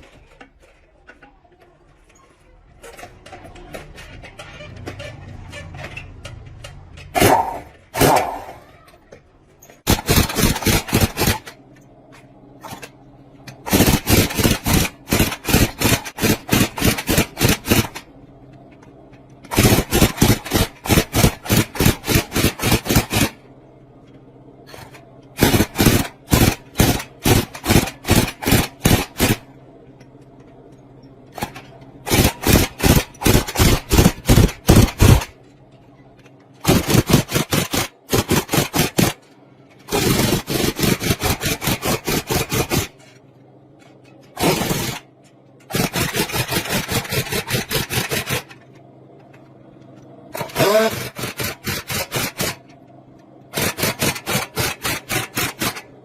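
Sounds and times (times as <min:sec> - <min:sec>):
metal being worked by hand: 0:00.0 - 0:18.1, 0:18.7 - 0:35.4, 0:36.2 - 0:43.2, 0:43.8 - 0:49.5, 0:50.3 - 0:52.8, 0:53.5 - 0:55.9
steady low hum: 0:00.0 - 0:56.0.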